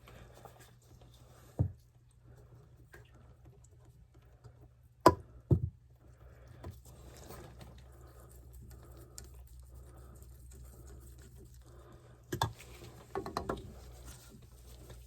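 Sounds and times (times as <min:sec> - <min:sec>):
faint scraping and handling: 0:00.0 - 0:04.7, 0:06.0 - 0:15.0.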